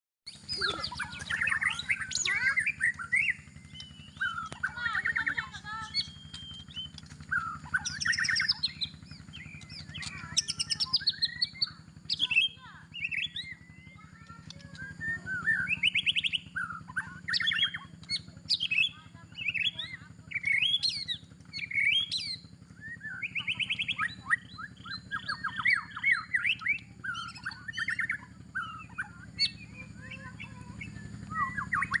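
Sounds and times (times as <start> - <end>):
songbird singing: 0.3 - 32.0
steady low hum: 0.3 - 32.0.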